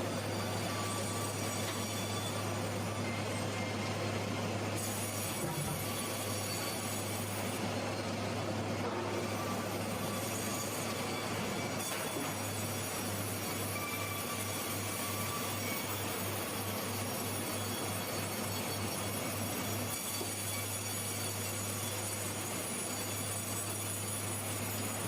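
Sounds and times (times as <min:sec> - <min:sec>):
sawmill machinery running: 0:00.0 - 0:25.0.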